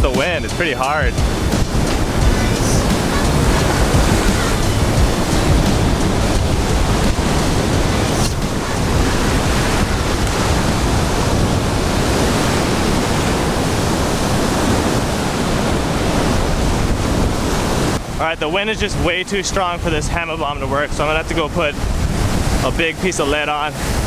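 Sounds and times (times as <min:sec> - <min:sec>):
surf breaking on beach: 0:00.0 - 0:24.0
wind rumbling on microphone: 0:00.0 - 0:24.0.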